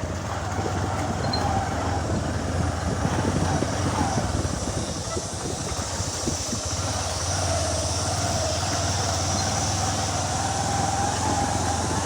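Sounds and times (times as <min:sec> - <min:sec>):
motorcycle engine hum: 0:00.0 - 0:12.0
road noise: 0:00.0 - 0:12.0.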